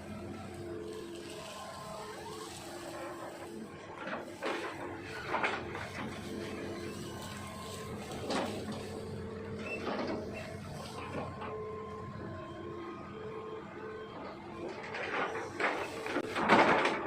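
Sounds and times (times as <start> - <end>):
excavator engine and hydraulics whine: 0.0 - 17.0.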